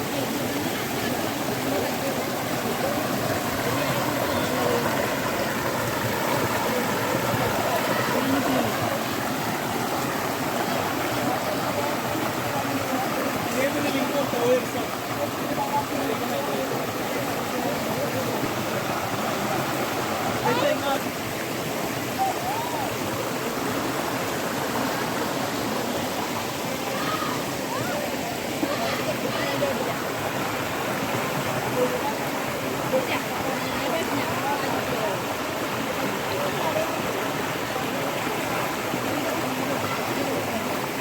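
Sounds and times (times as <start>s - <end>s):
faint voices: 0.0s - 41.0s
water rushing: 0.0s - 41.0s.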